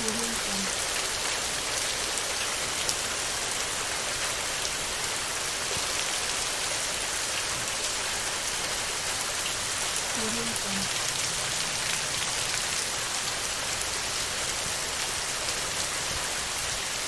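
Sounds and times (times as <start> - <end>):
heavy rain on a tin roof: 0.0 - 17.0.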